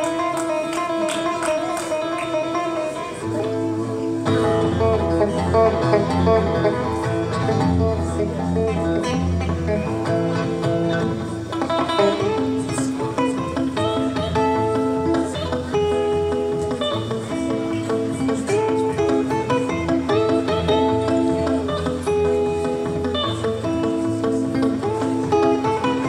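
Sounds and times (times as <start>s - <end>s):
guitar picking a melody: 0.0s - 26.0s.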